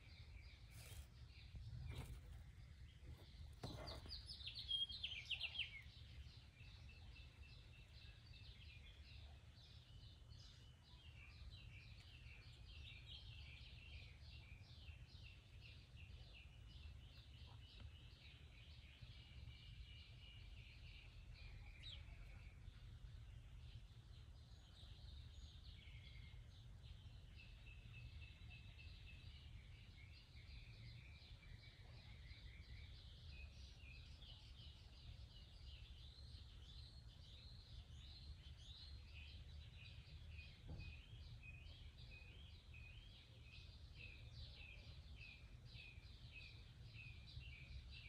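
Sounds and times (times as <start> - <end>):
faint birdsong: 0.0 - 48.0.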